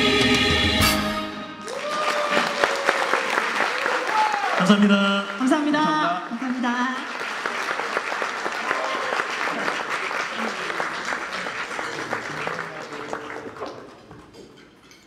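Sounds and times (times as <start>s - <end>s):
audience applauding: 1.4s - 14.4s.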